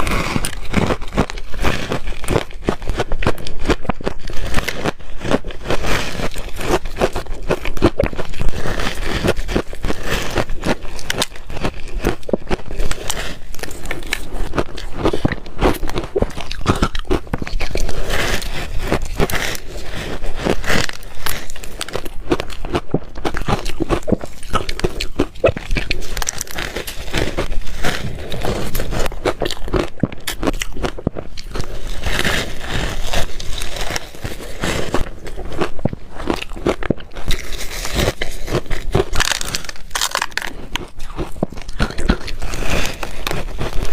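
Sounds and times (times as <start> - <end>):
ice crunching between teeth: 0.0 - 43.9.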